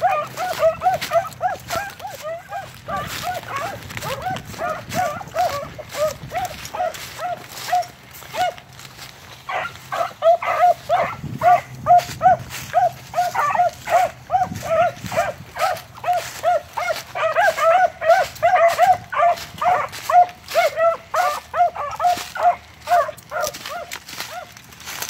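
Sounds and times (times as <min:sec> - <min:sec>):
dogs barking: 0:00.0 - 0:25.0
leaves and twigs crackling underfoot: 0:00.0 - 0:25.0.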